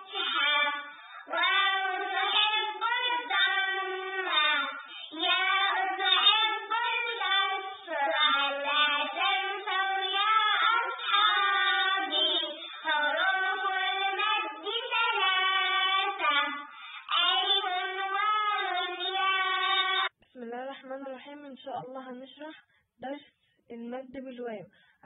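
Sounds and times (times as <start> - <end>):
child singing: 0.0 - 20.1.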